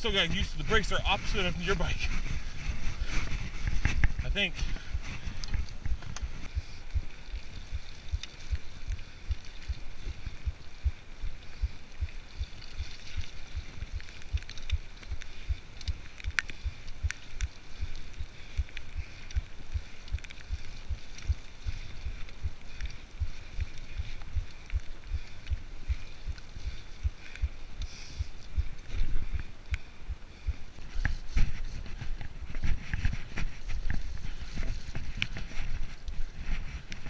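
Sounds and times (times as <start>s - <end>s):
mountain bike on dirt trail: 0.0s - 37.0s.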